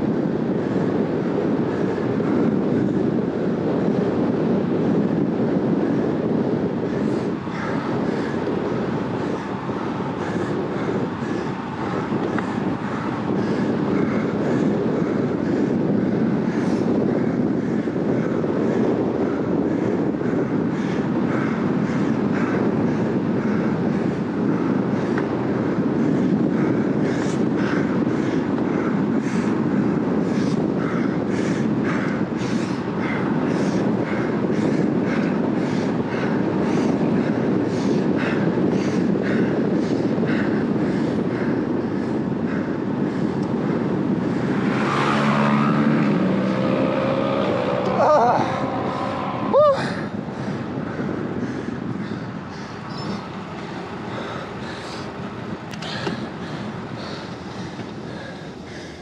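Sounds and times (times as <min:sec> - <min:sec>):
tyres humming on asphalt: 0:00.0 - 0:59.0
wind rushing over microphone: 0:00.0 - 0:59.0.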